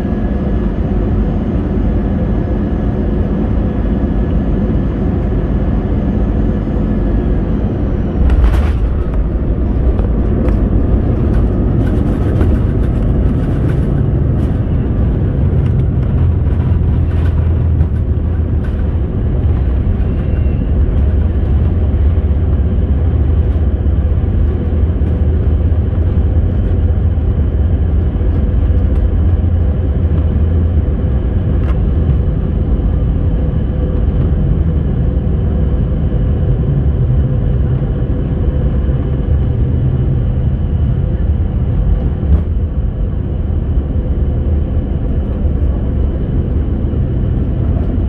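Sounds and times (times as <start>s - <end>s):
jet engines and airflow rumble: 0.0s - 48.0s.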